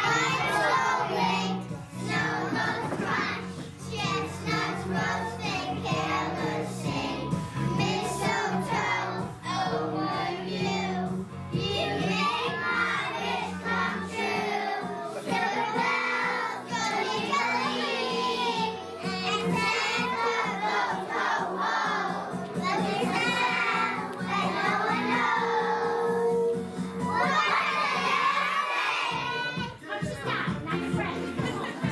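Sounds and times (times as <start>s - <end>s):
children singing: 0.0s - 31.9s.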